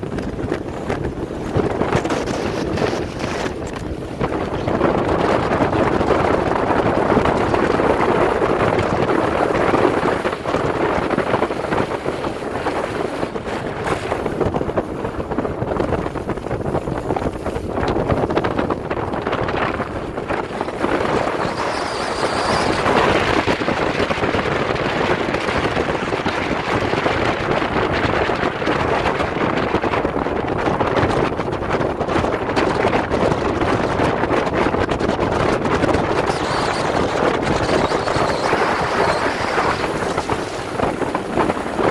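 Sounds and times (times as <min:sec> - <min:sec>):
boat hull through choppy water: 0:00.0 - 0:41.9
outboard motor running: 0:00.0 - 0:41.9
wind buffeting microphone: 0:00.0 - 0:41.9.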